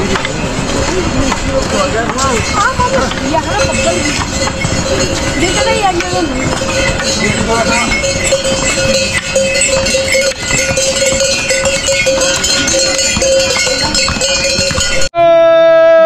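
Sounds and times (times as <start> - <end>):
mule bells jangling: 0.0 - 15.1.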